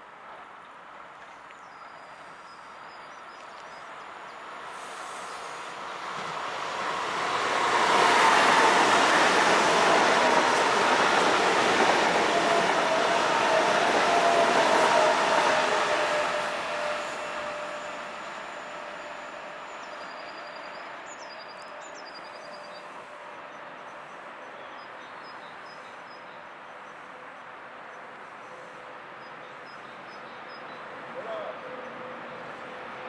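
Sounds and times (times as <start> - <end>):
high-speed train passing: 4.0 - 33.0.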